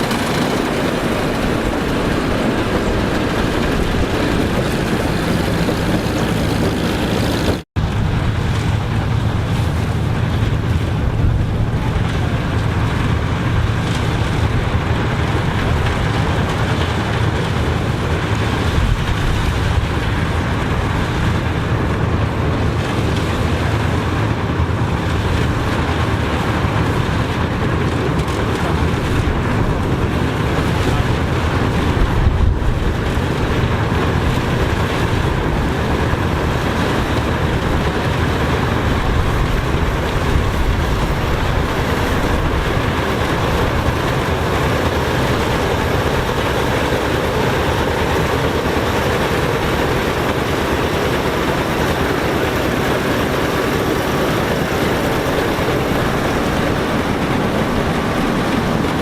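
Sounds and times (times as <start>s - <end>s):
broad rushing noise: 0.0s - 59.0s
heavy engine running: 0.0s - 59.0s.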